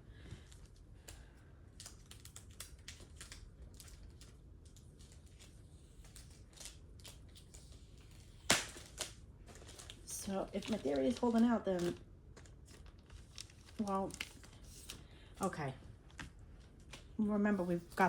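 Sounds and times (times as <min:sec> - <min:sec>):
sharp plastic crackle: 0:00.2 - 0:17.2
plastic packaging crinkling: 0:00.3 - 0:17.2.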